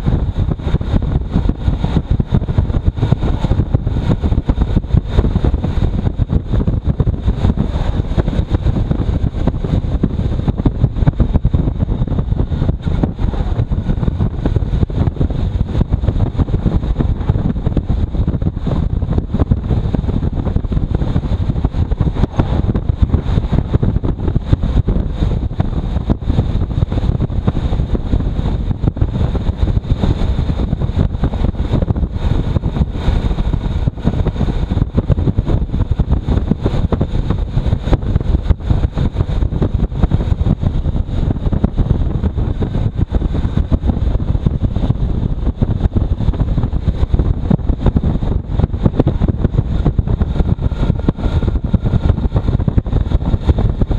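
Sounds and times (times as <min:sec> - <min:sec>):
road noise: 0:00.0 - 0:36.4, 0:45.9 - 0:53.9
gusty wind buffeting microphone: 0:00.0 - 0:53.9.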